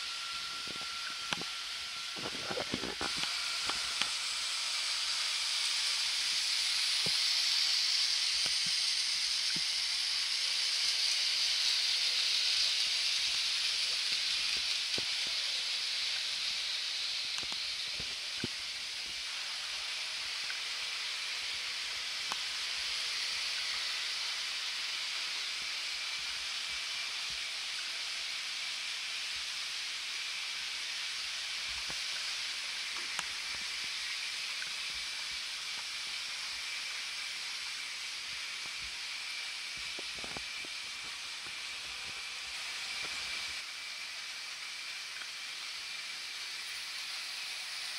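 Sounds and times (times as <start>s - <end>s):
faint steady whine: 0.0s - 47.9s
model train wheels rattling: 0.0s - 47.9s.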